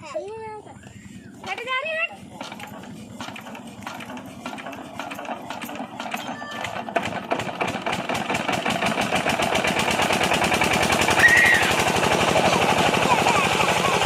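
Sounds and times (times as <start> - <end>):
diesel engine starting up: 0.8 - 14.0.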